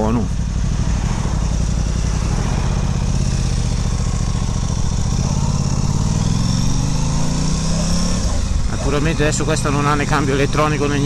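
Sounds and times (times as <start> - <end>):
motorcycle engine accelerating: 0.0 - 11.0
wind and road noise: 0.0 - 11.0.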